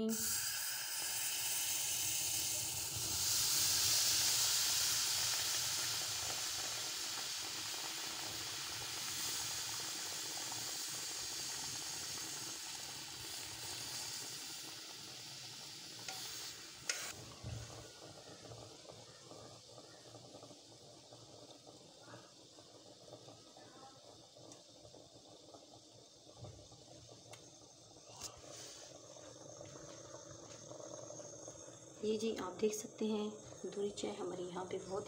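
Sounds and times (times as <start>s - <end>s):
tea sizzling in hot clay pot: 0.0s - 35.0s.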